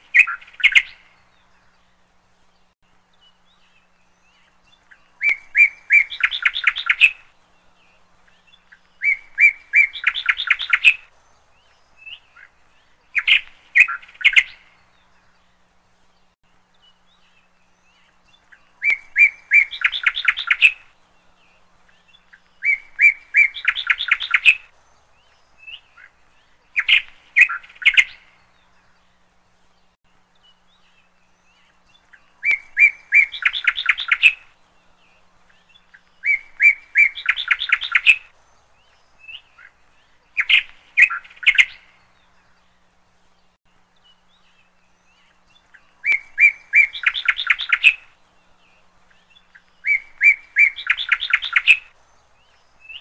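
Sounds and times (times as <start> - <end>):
bird singing with trill: 0.0 - 53.0.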